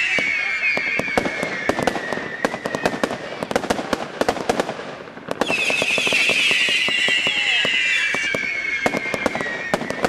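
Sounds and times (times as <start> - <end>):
firework pops and crackles: 0.0 - 10.0
firework whistling: 0.0 - 10.0.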